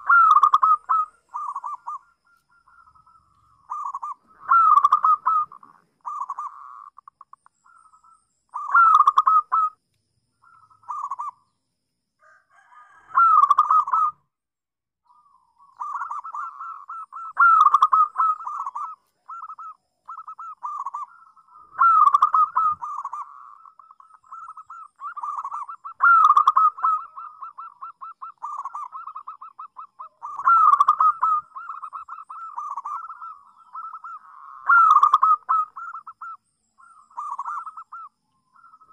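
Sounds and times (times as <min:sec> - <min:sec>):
dove cooing: 0:00.0 - 0:07.1, 0:07.7 - 0:09.8, 0:10.4 - 0:11.4, 0:12.2 - 0:14.2, 0:15.1 - 0:38.9.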